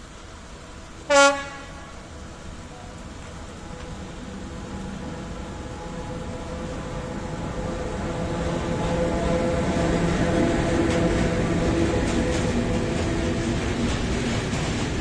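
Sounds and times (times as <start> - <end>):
electric locomotive hum: 0.0 - 15.0
train wheels rolling: 0.0 - 15.0.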